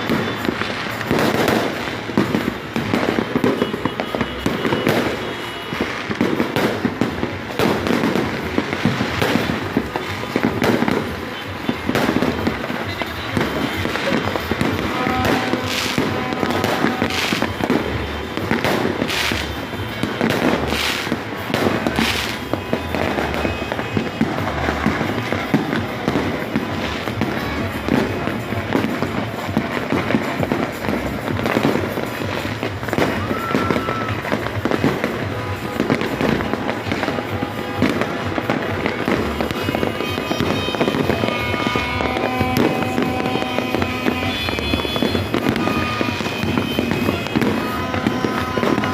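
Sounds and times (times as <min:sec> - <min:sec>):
firecrackers crackling: 0:00.0 - 0:48.9
loud firework bangs: 0:00.0 - 0:48.9.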